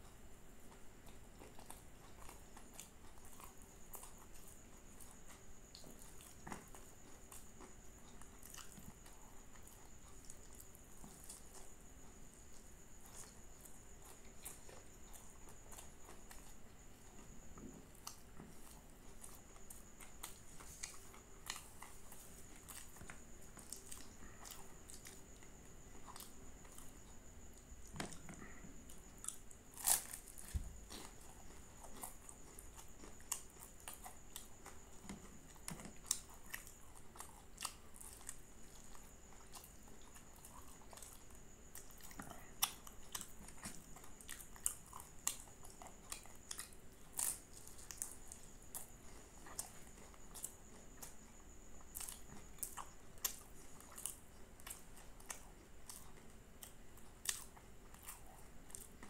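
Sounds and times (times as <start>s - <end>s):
crunchy pastry chewing and biting: 0.0s - 59.0s
faint high-pitched whine: 0.0s - 59.0s.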